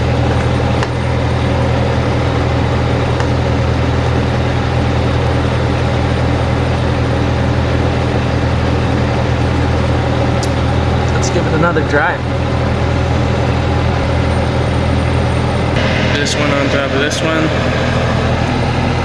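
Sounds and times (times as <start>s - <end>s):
heavy truck engine idling: 0.0s - 19.0s.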